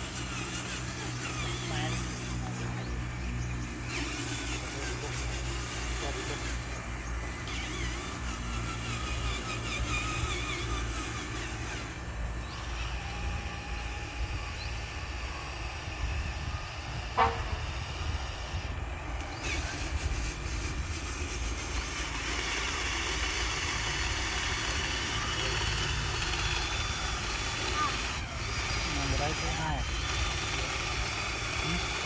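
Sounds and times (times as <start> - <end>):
toy trucks mechanical hum: 0.0 - 32.0.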